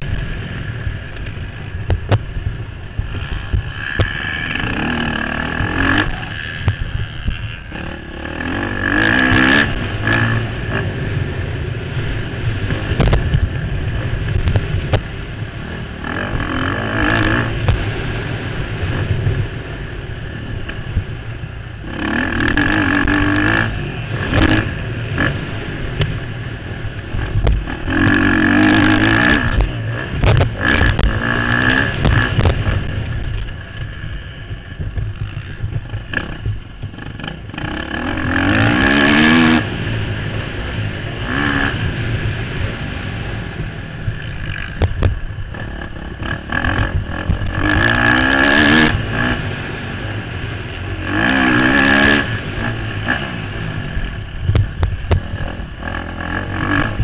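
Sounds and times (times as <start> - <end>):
wind rushing on microphone: 0.0 - 37.6, 38.2 - 57.0
motocross bike engine revving: 0.0 - 57.0.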